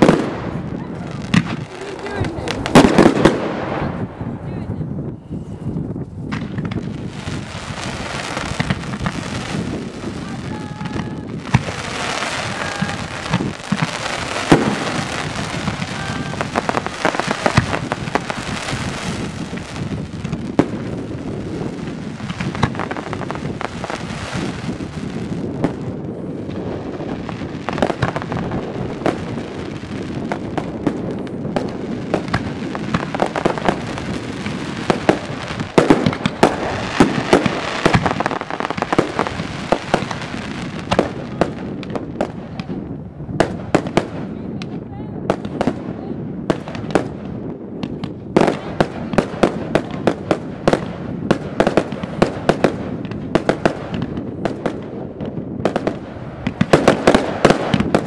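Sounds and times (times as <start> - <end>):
firework shells bursting: 0.0 - 4.1, 6.2 - 42.7, 46.5 - 58.0
noisy wash of firework barrage: 0.0 - 58.0.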